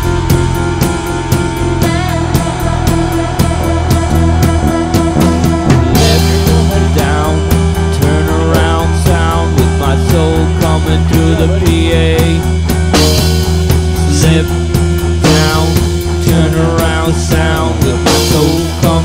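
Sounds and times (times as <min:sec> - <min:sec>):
wavering melody line: 0:00.0 - 0:16.8
rock music with drums and bass: 0:00.0 - 0:19.0.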